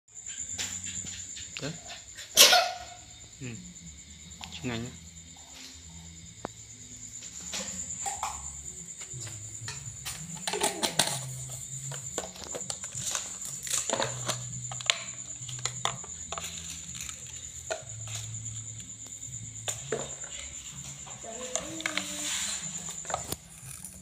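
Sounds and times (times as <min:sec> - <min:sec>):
soft background music: 0:00.1 - 0:24.0.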